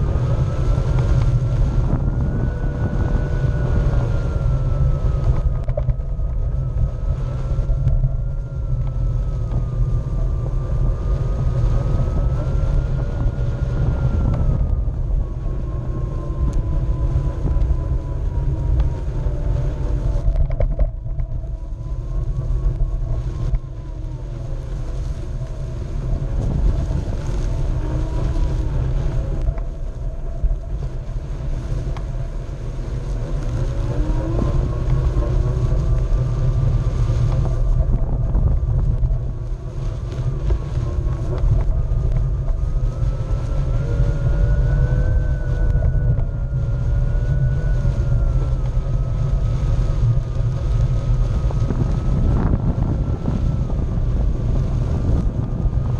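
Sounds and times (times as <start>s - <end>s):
electric motor whining: 0.0s - 55.9s
wind on microphone: 0.0s - 55.9s.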